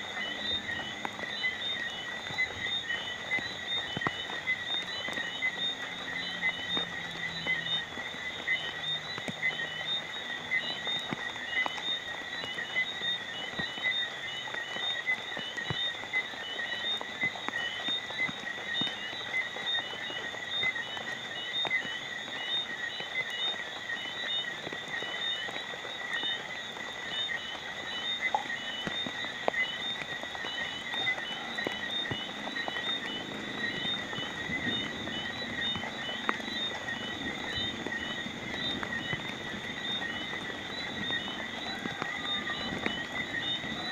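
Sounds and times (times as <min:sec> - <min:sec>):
frogs calling: 0:00.0 - 0:43.9
raindrops ticking: 0:00.0 - 0:43.9.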